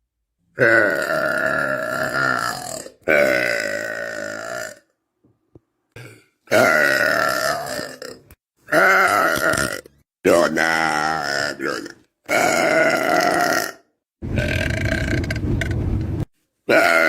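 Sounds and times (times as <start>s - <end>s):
person burping: 0.6s - 5.0s, 5.9s - 15.8s, 16.7s - 17.0s.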